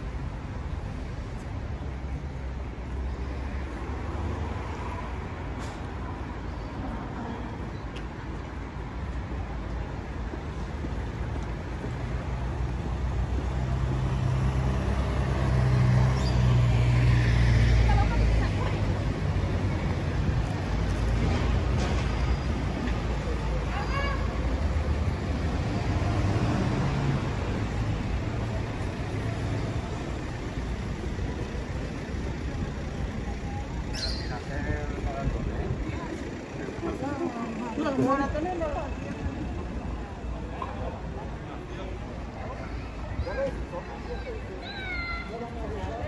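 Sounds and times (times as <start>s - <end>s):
street traffic rumble: 0.0s - 46.0s.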